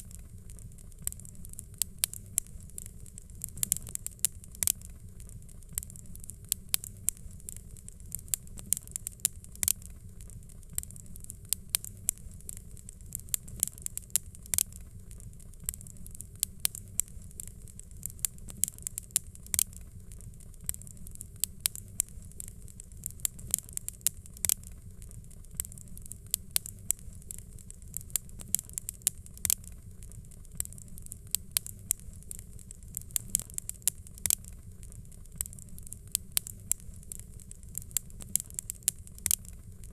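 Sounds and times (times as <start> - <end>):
fire crackling and popping: 0.0 - 39.9
low steady rumble: 0.0 - 39.9.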